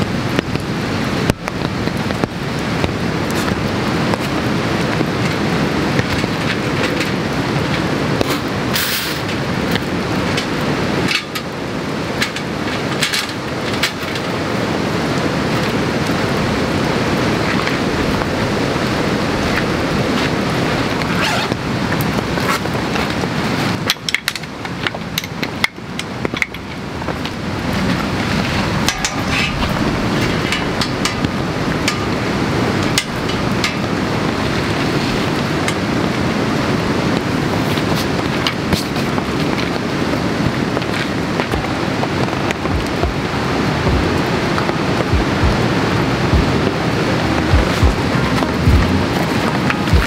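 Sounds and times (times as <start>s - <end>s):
rain falling: 0.0s - 50.0s.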